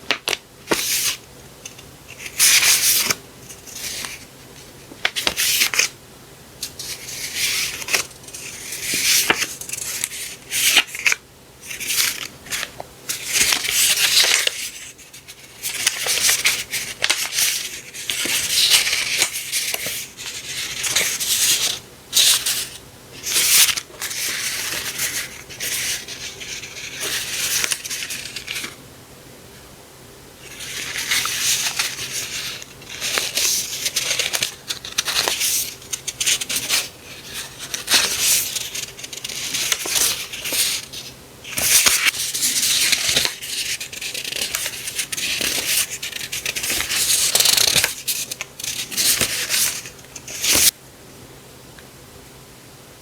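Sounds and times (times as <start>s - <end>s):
paper rustling and crinkling: 0.1s - 6.0s, 6.6s - 28.8s, 30.4s - 50.7s.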